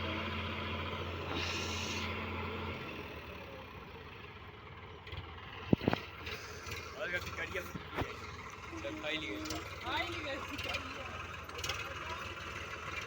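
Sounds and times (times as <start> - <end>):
tractor engine humming: 0.0 - 13.0.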